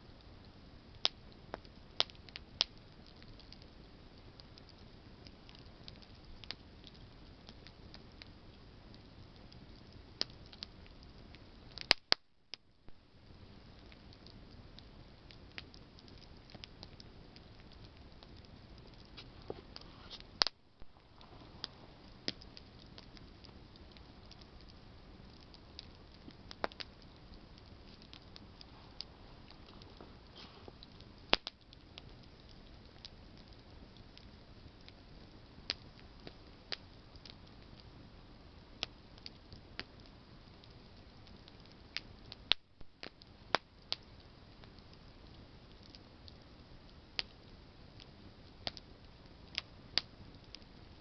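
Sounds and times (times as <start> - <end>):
campfire crackling: 0.0 - 51.0.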